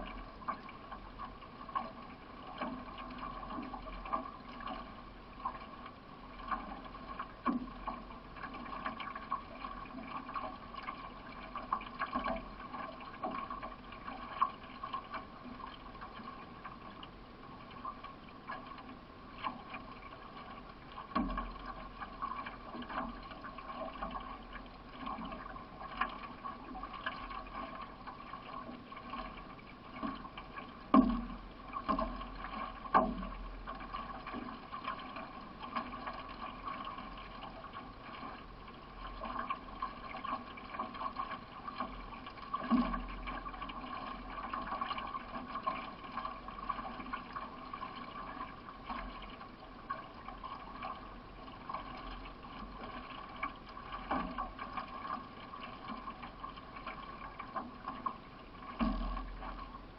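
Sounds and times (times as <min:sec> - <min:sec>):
paddle strokes: 0:00.0 - 0:59.9
water washing along hull: 0:00.0 - 0:59.9.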